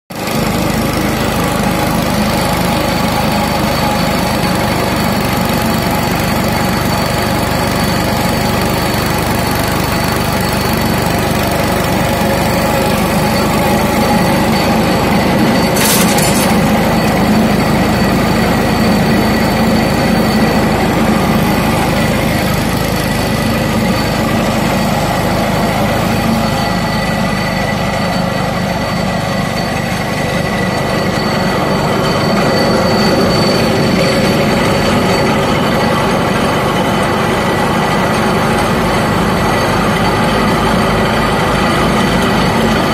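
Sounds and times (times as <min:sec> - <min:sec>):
machine running with steady hum: 0:00.1 - 0:42.9
high-pitched mechanical rattle: 0:00.2 - 0:42.9.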